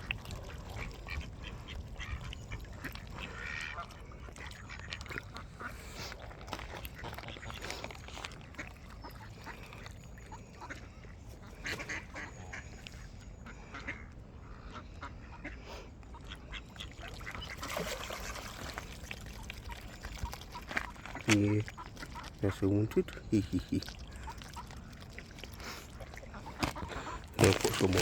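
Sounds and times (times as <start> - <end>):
ducks quacking: 0.0 - 18.8, 19.4 - 25.0, 25.6 - 28.0.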